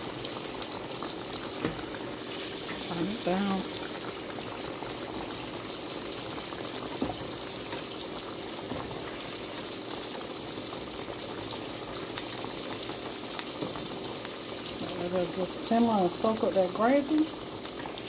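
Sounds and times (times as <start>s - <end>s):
gravy bubbling in skillet: 0.0s - 18.0s.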